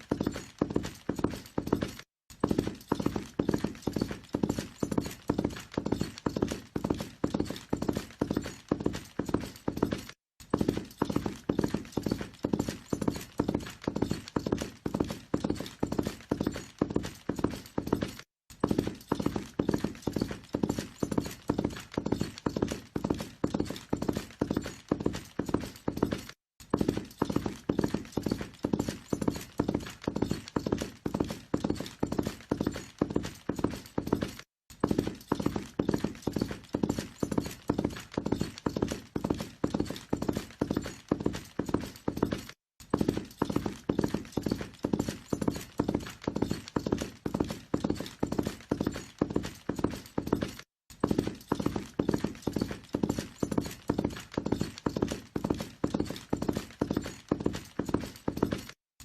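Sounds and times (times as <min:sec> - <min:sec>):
horse hooves galloping: 0:00.0 - 0:58.8.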